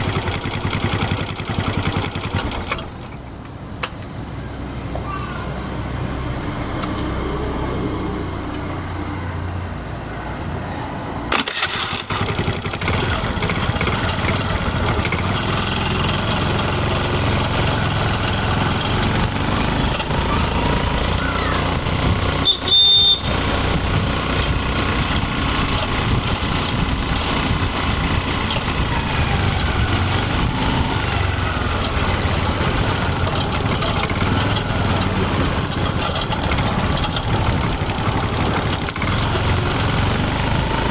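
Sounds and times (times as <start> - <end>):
scooter engine running: 0.0 - 3.2, 11.3 - 40.9.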